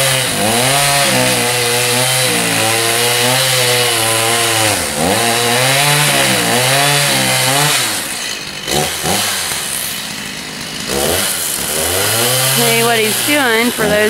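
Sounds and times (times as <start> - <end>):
chainsaw cutting a tree trunk: 0.0 - 14.0.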